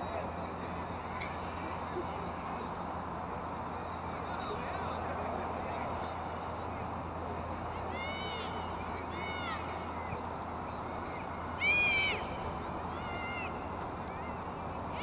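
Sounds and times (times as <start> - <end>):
outdoor noise rush: 0.0 - 15.0.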